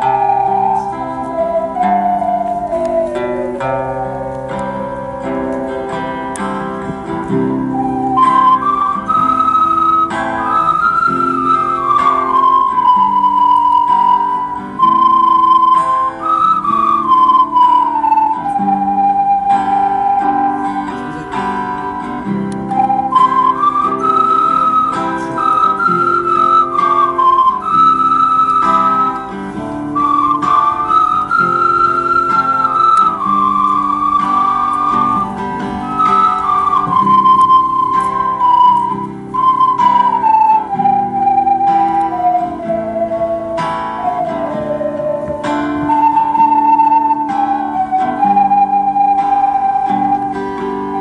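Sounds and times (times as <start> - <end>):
ocarina melody: 0.0 - 51.0
plucked acoustic guitar: 0.0 - 51.0.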